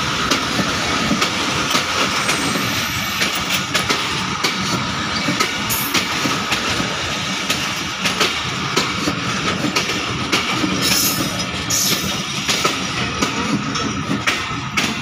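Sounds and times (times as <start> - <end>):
train coaches rolling past: 0.0 - 15.0
train wheels clacking over rail joints: 0.0 - 15.0.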